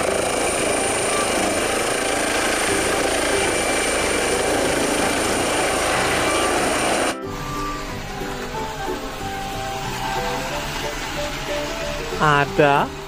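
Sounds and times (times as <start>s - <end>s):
helicopter lifting off: 0.0s - 13.0s.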